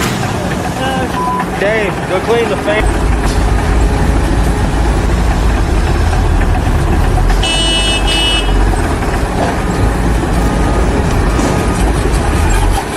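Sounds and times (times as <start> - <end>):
loud machinery rumble: 0.0 - 12.9.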